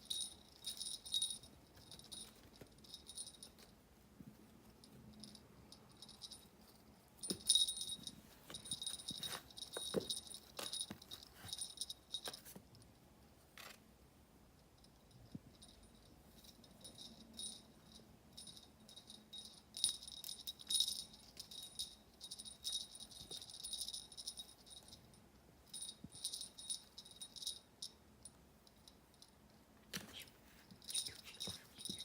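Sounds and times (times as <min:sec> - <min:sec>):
small metal bell jingling: 0:00.0 - 0:03.7, 0:04.8 - 0:12.5, 0:14.8 - 0:29.4, 0:30.1 - 0:32.0.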